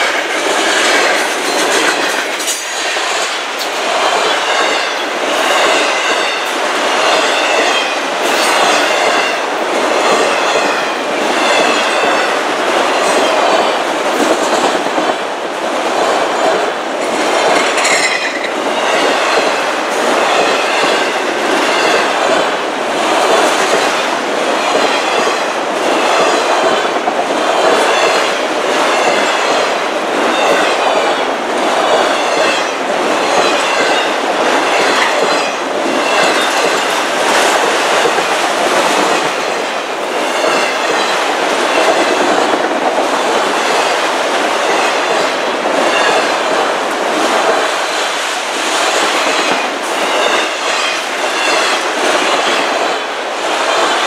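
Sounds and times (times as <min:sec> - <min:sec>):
steel wheels clattering on rails: 0:00.0 - 0:15.2, 0:15.8 - 0:54.0.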